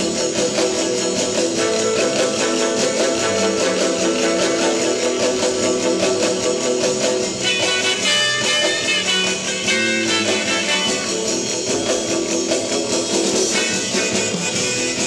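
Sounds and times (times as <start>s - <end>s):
instrumental rock and roll with guitar: 0.0s - 15.0s.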